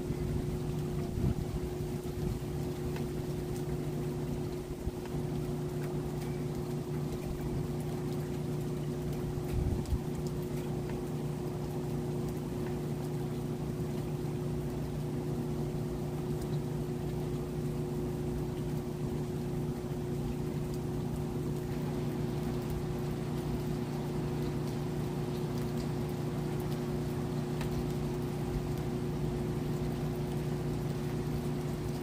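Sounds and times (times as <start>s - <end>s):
faint rain hiss: 0.0s - 32.0s.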